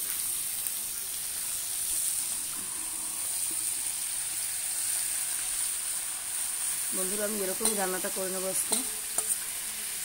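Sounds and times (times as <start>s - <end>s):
fish frying in oil: 0.0s - 10.0s.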